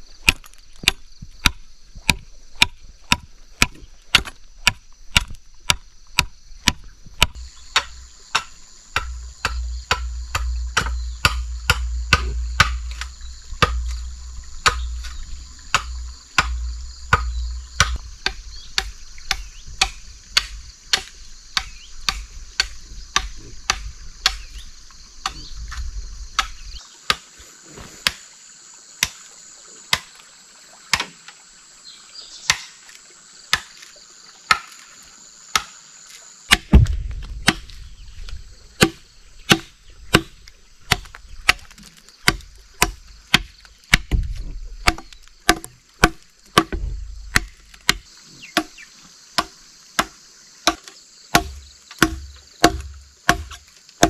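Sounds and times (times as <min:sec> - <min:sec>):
machete chopping wooden log: 0:00.2 - 0:24.6, 0:25.2 - 0:27.3, 0:29.0 - 0:29.2, 0:29.9 - 0:30.1, 0:30.9 - 0:31.2, 0:32.4 - 0:32.9, 0:33.5 - 0:33.8, 0:34.5 - 0:34.8, 0:35.5 - 0:35.8, 0:36.5 - 0:48.8, 0:49.4 - 0:53.8.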